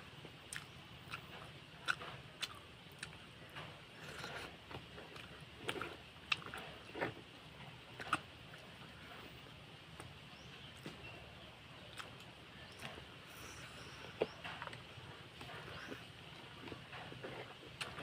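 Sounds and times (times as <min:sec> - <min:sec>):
person chewing food: 0:00.2 - 0:09.4, 0:11.8 - 0:18.0.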